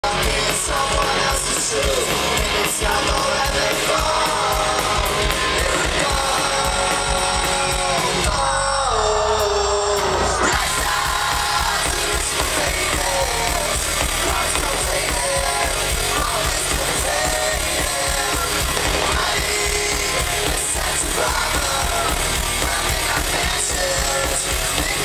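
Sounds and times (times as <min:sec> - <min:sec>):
live pop-punk band: 0:00.0 - 0:25.0
shouted-sung vocals: 0:00.0 - 0:25.0.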